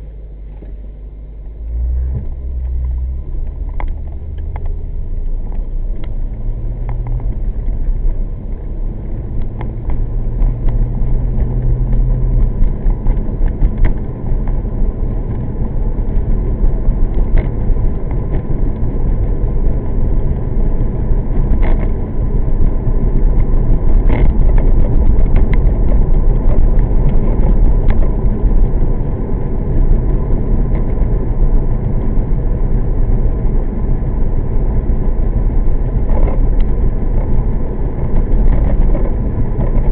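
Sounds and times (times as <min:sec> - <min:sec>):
car engine rumble: 0:00.0 - 0:39.9
tyre road noise: 0:00.0 - 0:39.9.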